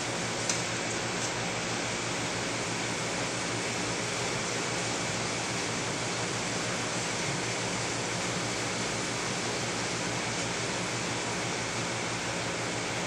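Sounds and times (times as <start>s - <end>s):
aquarium water pump rushing: 0.0s - 13.0s.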